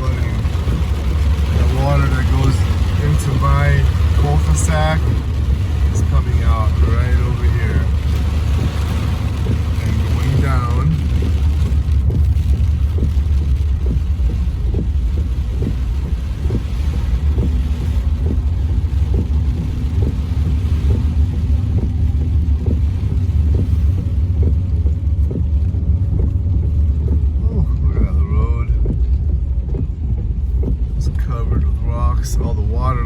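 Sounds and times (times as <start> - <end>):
floodwater rushing: 0.0 - 33.0.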